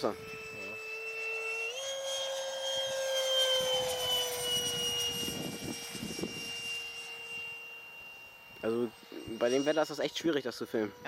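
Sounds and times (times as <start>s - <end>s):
model jet ducted fan whining: 0.0s - 11.0s.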